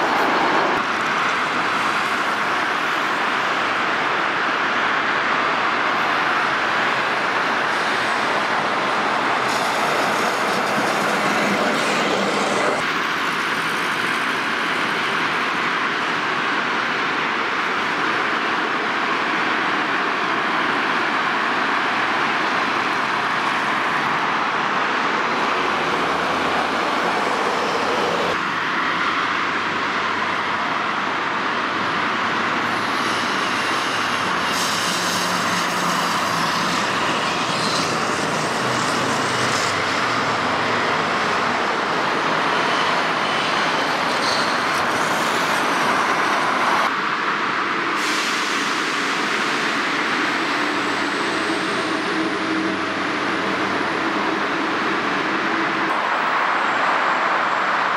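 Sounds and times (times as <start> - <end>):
road traffic noise: 0.0 - 57.9.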